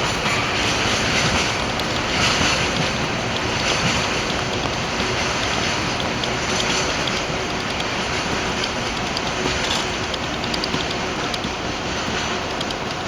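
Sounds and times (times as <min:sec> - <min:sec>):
train wheels rumbling on rails: 0:00.0 - 0:13.0
light ticks: 0:00.2 - 0:13.0.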